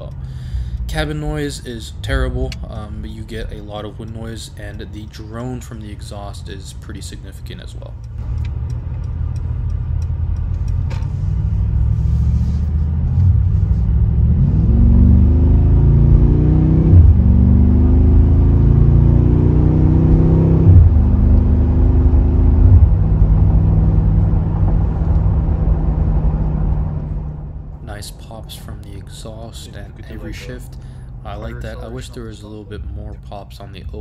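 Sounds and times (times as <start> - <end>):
engine accelerating with gear shifts: 0.0 - 34.0
steady exhaust drone: 0.0 - 34.0.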